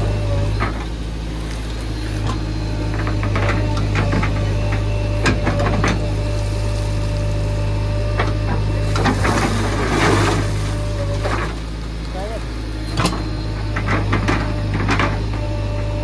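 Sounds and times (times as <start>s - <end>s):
diesel engine running: 0.0s - 16.0s
steady hydraulic whine: 0.0s - 16.0s.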